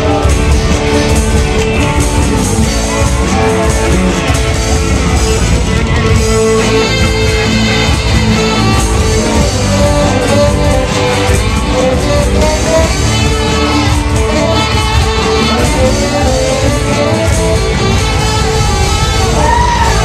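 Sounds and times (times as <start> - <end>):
bass: 0.0 - 20.0
drum kit: 0.0 - 20.0
electric guitar: 0.0 - 20.0.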